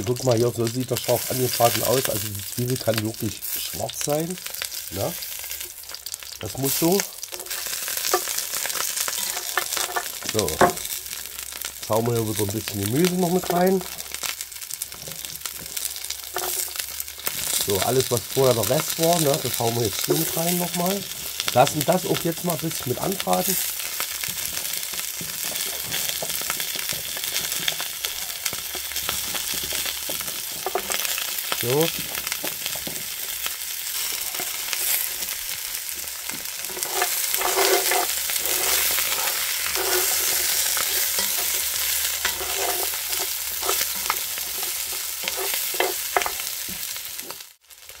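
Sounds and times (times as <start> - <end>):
meat sizzling in a pot: 0.0 - 48.0.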